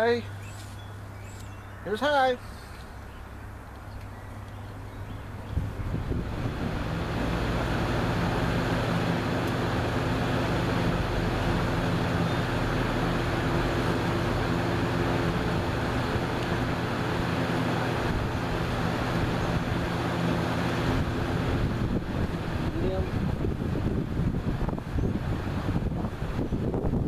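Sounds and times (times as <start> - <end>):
low motor hum: 2.4 - 27.0
box fan air rushing: 5.2 - 27.0.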